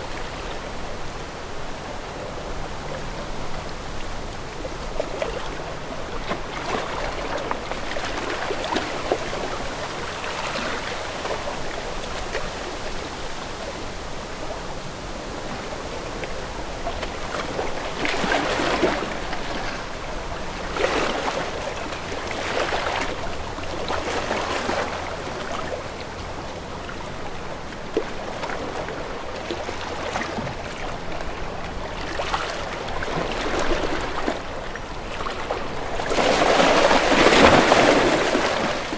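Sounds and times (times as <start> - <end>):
sea waves washing: 0.0 - 38.9.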